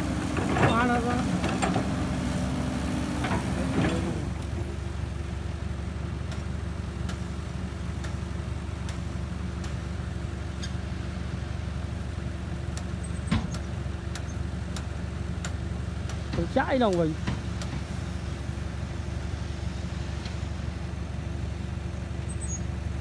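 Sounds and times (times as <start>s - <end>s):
heavy vehicle engine running: 0.0s - 23.0s.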